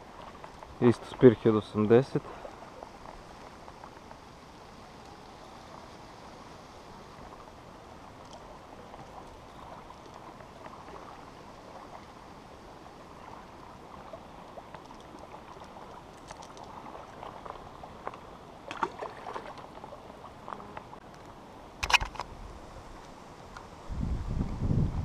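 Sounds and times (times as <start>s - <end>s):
small waves lapping on rocky shore: 0.0s - 20.7s.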